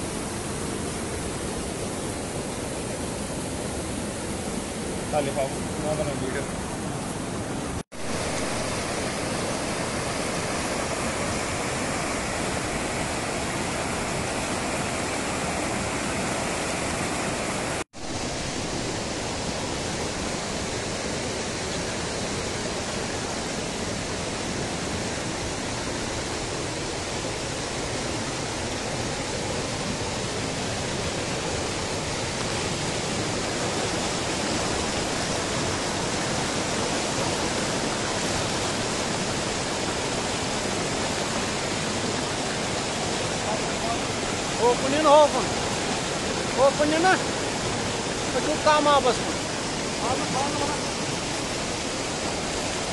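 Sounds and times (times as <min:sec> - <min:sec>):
river rushing over boulders: 0:00.0 - 0:52.9.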